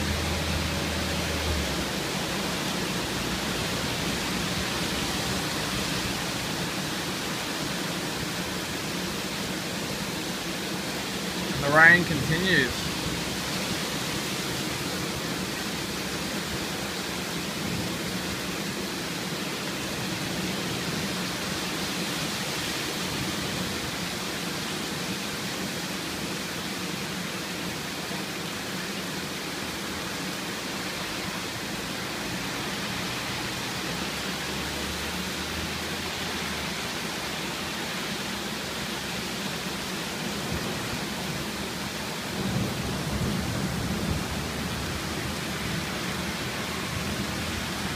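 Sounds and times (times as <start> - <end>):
heavy rain hissing: 0.0 - 47.9.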